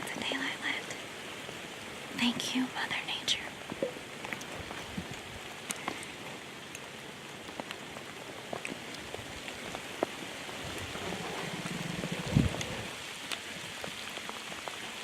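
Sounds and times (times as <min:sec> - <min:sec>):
heavy rain pouring: 0:00.0 - 0:15.0
raindrops tapping close by: 0:00.0 - 0:15.0.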